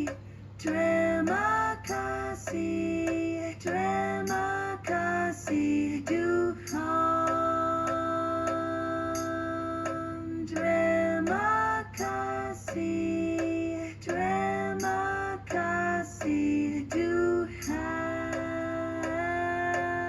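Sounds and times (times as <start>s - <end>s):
faint regular ticks: 0.0s - 20.0s.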